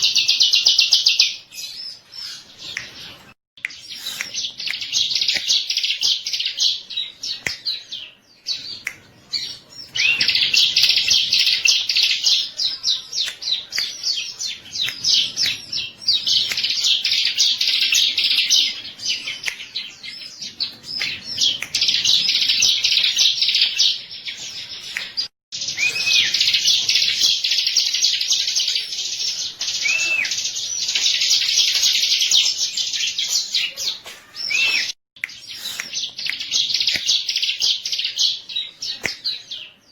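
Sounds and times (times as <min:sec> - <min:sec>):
small bird chattering song: 0:00.0 - 0:39.9.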